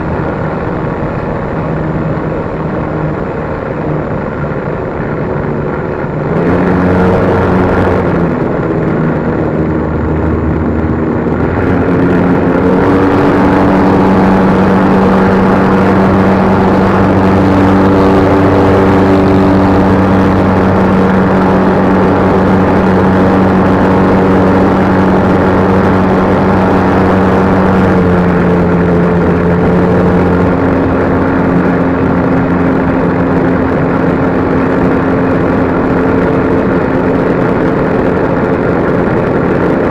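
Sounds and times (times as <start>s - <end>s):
model plane motor and propeller: 0.0s - 39.9s
wind noise: 0.0s - 39.9s.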